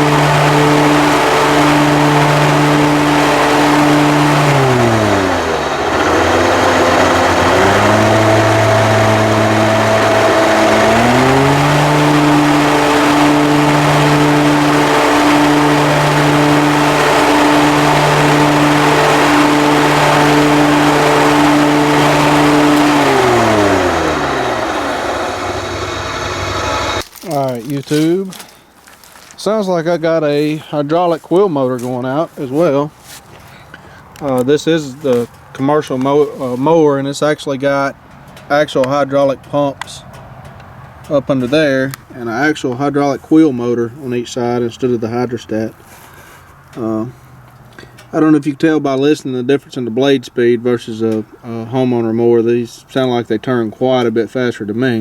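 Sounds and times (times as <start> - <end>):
lawn mower engine revving: 0.0 - 49.0.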